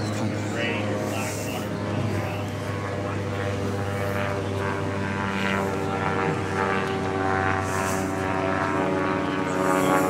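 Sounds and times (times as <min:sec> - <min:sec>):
engine drone: 0:00.0 - 0:10.0
faint voices: 0:00.0 - 0:10.0.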